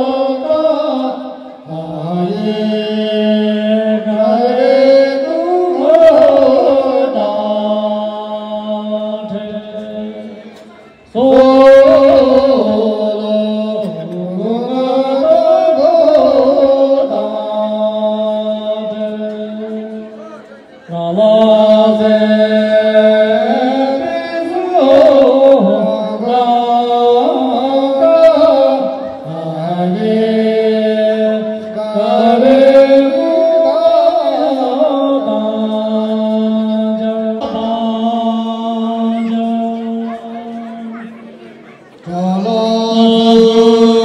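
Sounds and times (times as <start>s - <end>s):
person singing long notes: 0.0s - 41.4s, 42.0s - 44.0s.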